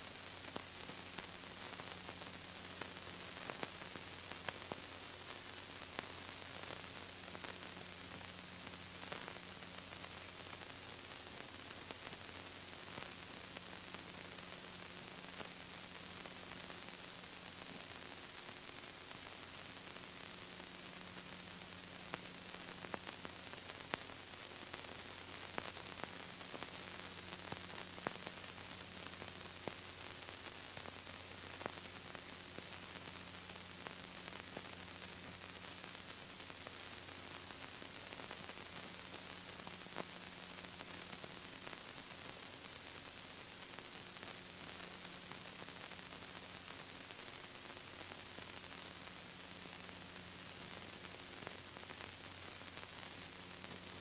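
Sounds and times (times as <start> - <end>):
tape hiss and static: 0.0 - 54.0.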